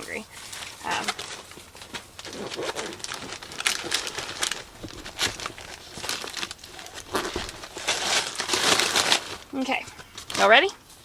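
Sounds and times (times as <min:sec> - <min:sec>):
wrapper crinkling and rustling: 0:00.0 - 0:11.0.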